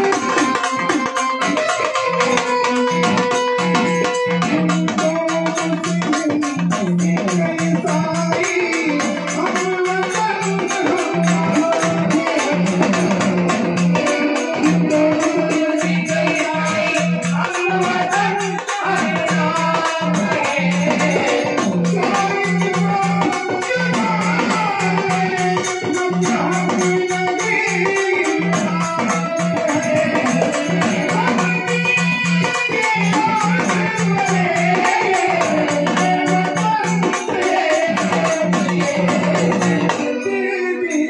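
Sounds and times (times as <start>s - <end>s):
frame drum beating fast rhythm: 0.0s - 40.3s
jingling percussion: 0.0s - 41.0s.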